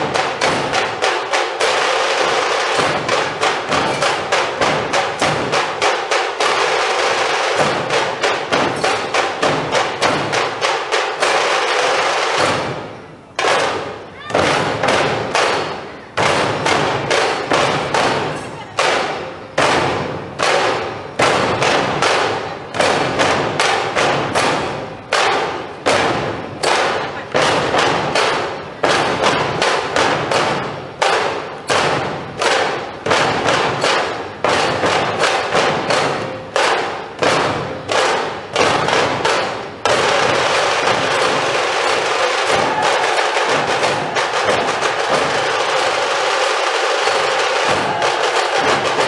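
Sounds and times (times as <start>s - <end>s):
drum roll: 0.0s - 49.0s
hard drum strokes: 0.0s - 49.0s.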